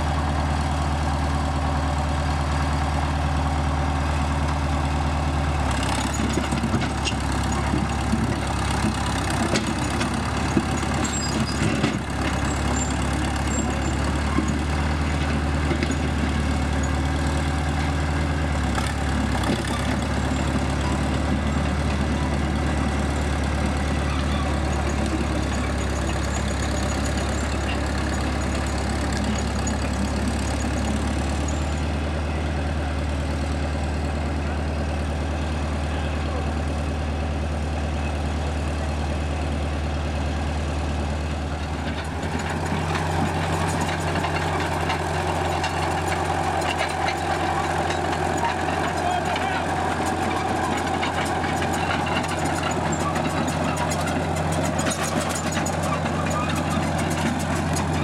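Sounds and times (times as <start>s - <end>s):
bulldozer engine running: 0.0s - 58.0s.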